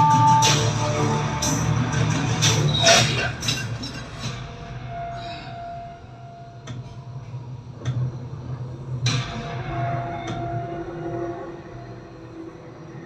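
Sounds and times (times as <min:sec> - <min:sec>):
dramatic film score: 0:00.0 - 0:13.0.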